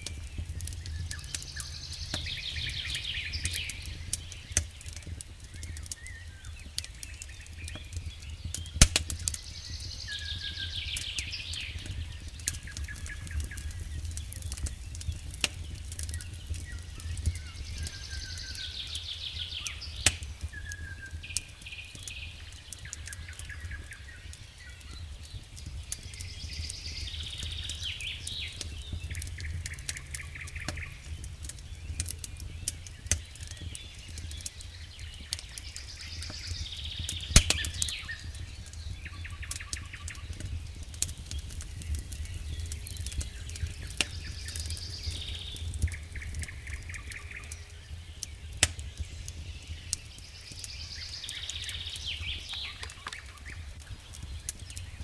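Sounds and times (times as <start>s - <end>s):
bird calls: 0.0s - 55.0s
campfire crackling and popping: 0.0s - 55.0s.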